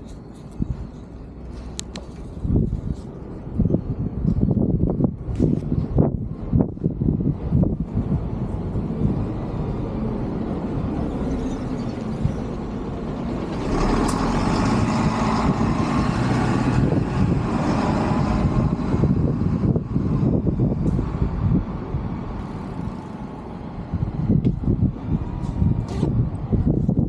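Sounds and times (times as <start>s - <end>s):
heavy road vehicle motor: 0.0s - 27.0s.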